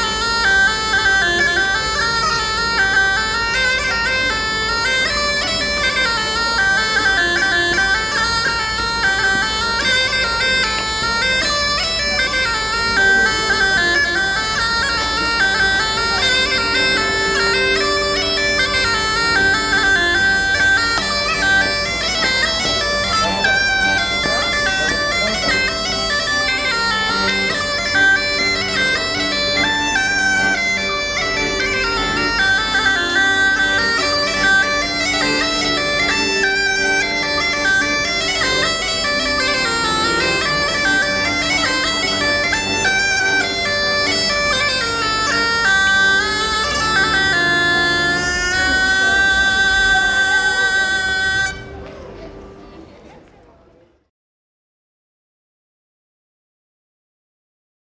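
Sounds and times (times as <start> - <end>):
bagpipes playing dance tune: 0.0 - 52.6.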